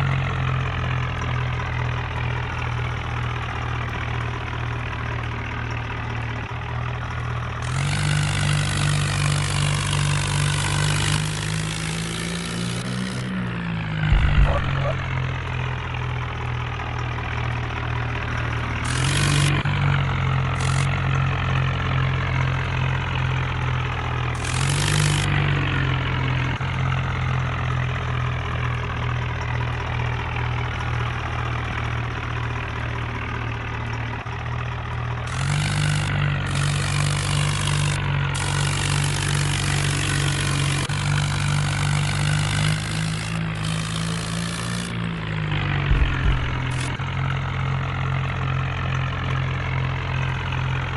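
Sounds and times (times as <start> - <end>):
tractor diesel engine revving: 0.0 - 50.9.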